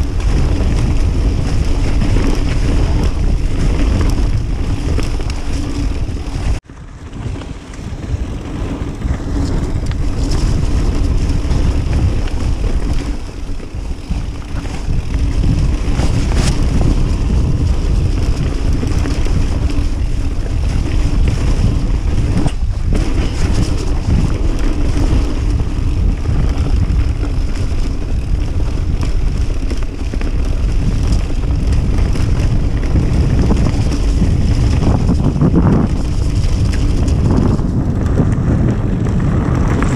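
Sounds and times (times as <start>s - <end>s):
bike tyres rumbling on dirt: 0.0s - 39.9s
wind on microphone: 0.0s - 39.9s.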